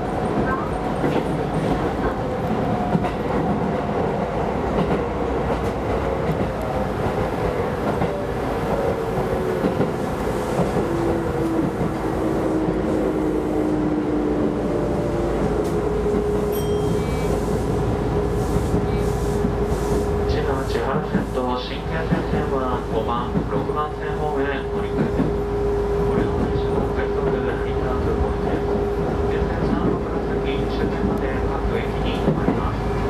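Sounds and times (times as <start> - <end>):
electric train running on track: 0.0 - 33.0.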